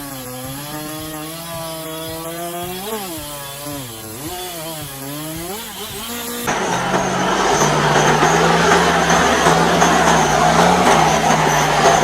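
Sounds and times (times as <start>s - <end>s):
rough loud machine noise: 0.0s - 12.0s
stump grinder engine under load: 0.0s - 12.0s.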